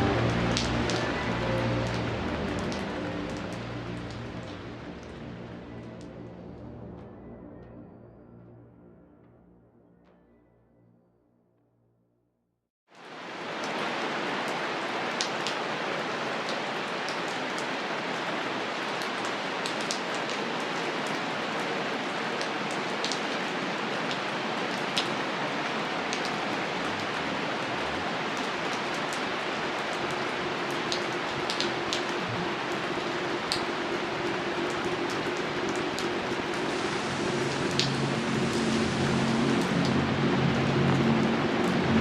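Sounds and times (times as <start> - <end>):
steady rain falling: 0.0 - 7.1, 12.9 - 42.0.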